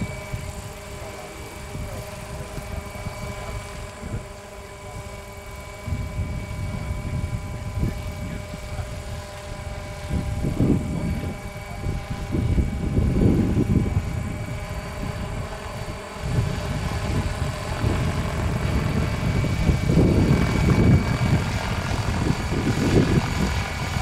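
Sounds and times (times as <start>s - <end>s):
model helicopter motor whine: 0.0s - 24.0s
rotors rumbling: 0.0s - 24.0s.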